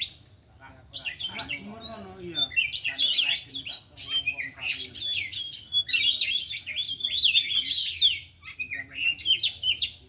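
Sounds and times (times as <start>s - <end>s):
songbird singing chirps and trills: 0.0s - 10.0s.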